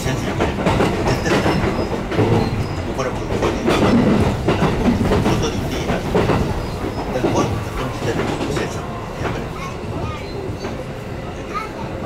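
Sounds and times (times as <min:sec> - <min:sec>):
wheels clicking over rails: 0:00.0 - 0:10.9
train rumble from inside: 0:00.0 - 0:12.0.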